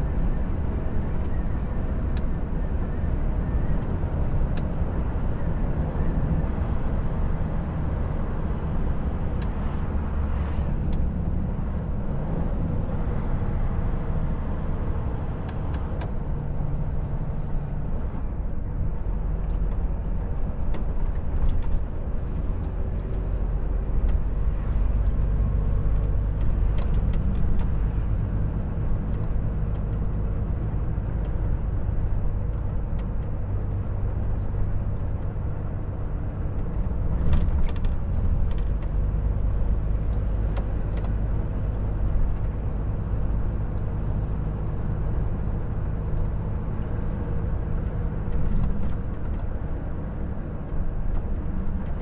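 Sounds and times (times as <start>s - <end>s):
diesel truck engine drone: 0.0s - 52.0s
tyre and road noise: 0.0s - 52.0s.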